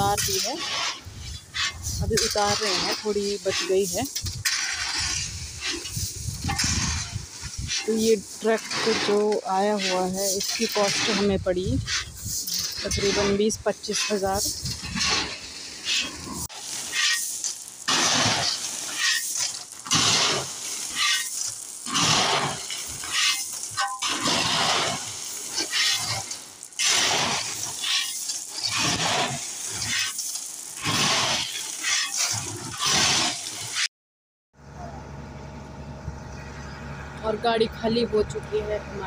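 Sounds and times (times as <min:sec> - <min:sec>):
gravel sliding and rattling: 0:00.0 - 0:33.9
shovels scraping gravel: 0:00.0 - 0:33.9.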